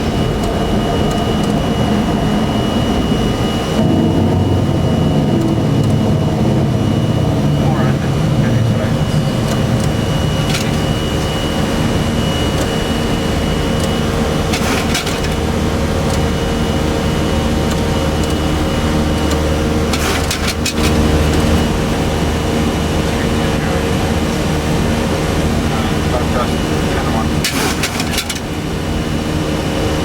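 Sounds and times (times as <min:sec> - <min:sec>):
constant whine: 0:00.0 - 0:30.0
jet engines roaring: 0:00.0 - 0:30.0.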